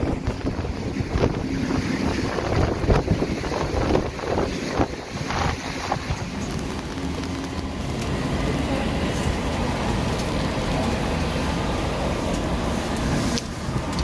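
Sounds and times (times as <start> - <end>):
vehicle cabin rumble and hum: 0.0 - 11.4.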